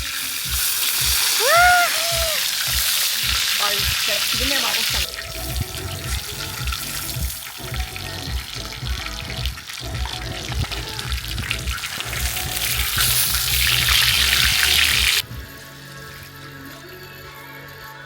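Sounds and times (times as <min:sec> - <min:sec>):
fish frying in fat: 0:00.0 - 0:15.3.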